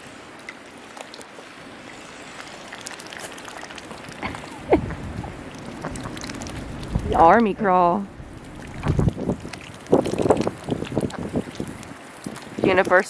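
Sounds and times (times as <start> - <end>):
water and ice sloshing: 0.0 - 13.0.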